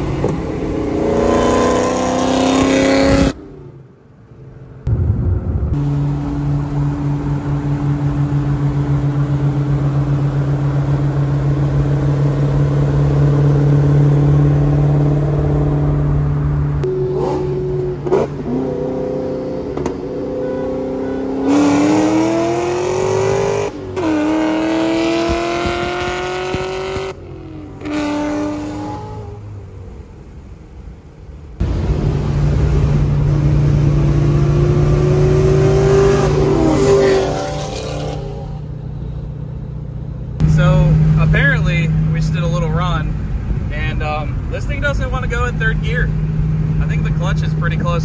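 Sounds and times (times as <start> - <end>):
car engine revving: 0.0 - 29.6, 31.6 - 48.0.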